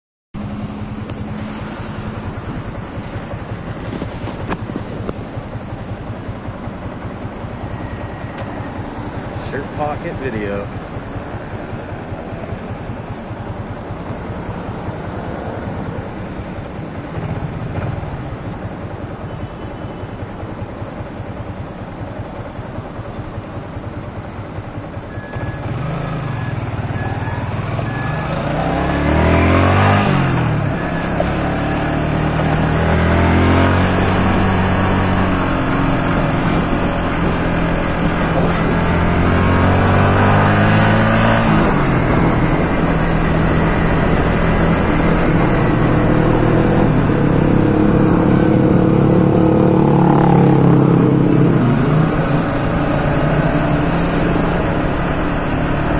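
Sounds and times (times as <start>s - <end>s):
motorcycle engine accelerating: 0.4s - 18.9s, 20.4s - 55.9s.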